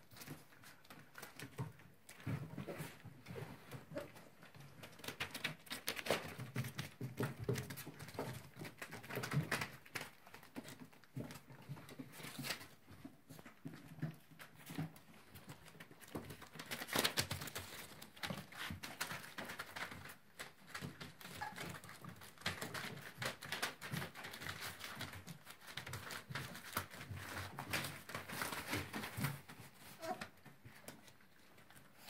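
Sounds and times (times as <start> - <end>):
puppy paws scratching on paper: 0.0 - 32.0.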